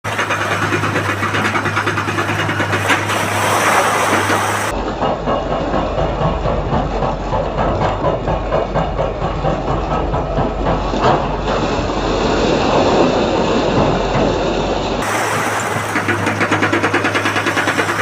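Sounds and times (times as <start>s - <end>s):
rapid clattering and rattling: 0.0s - 11.7s, 15.0s - 18.0s
excavator engine drone: 0.0s - 18.0s.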